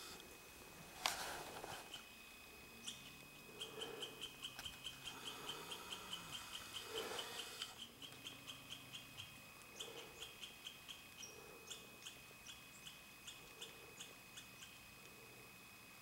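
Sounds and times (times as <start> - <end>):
faint high-pitched chirps: 1.7 - 15.6.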